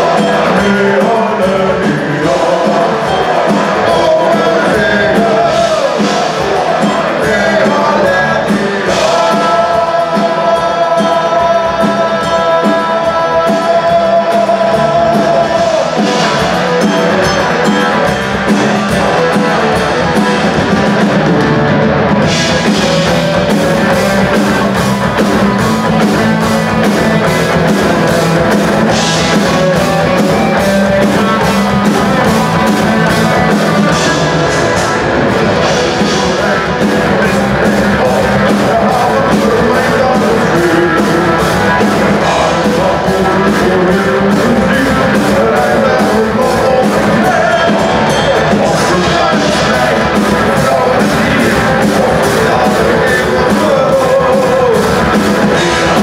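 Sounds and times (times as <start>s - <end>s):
man singing: 0.0s - 20.6s, 22.2s - 56.0s
bass guitar: 0.0s - 56.0s
distorted electric guitars: 0.0s - 56.0s
drum kit: 0.0s - 56.0s.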